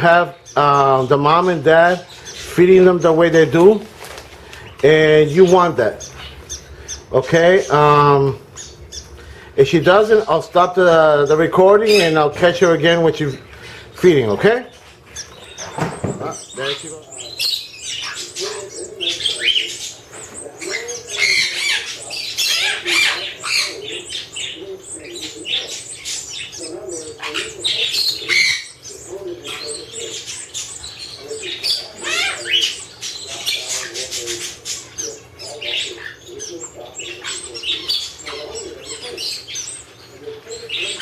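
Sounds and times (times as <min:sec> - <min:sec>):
canaries chirping: 0:00.0 - 0:41.0
chicks squawking for food: 0:00.0 - 0:41.0.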